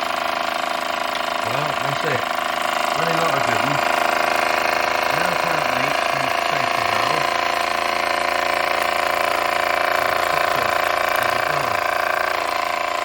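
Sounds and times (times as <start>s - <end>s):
toy steam engine running: 0.0s - 13.0s.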